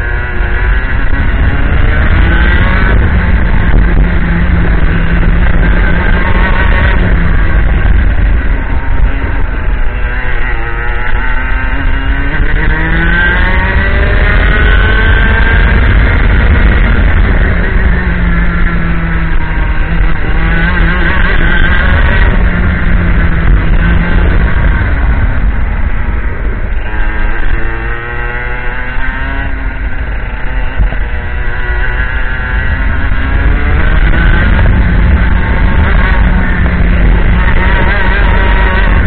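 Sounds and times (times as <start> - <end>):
kart engine revving: 0.0 - 39.0.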